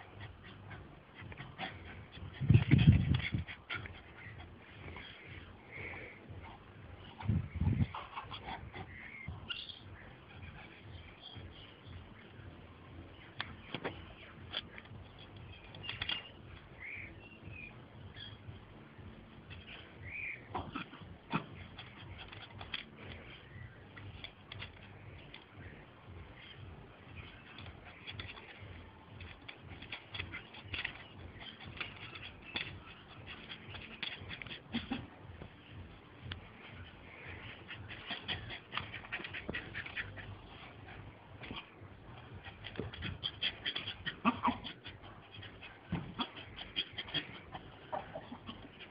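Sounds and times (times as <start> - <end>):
ball and paws scuffing on grass: 0.0 - 48.9
birds chirping: 0.0 - 48.9.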